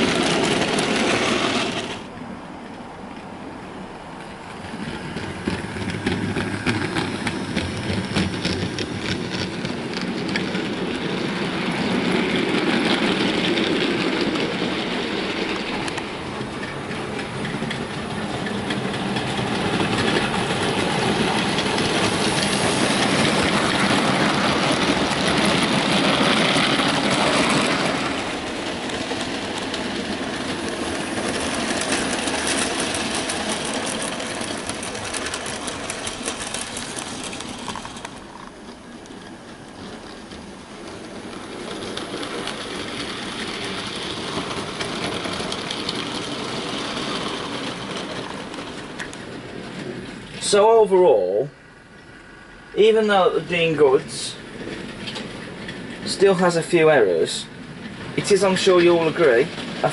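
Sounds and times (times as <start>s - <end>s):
wheels rattling over rail joints: 0.0s - 59.9s.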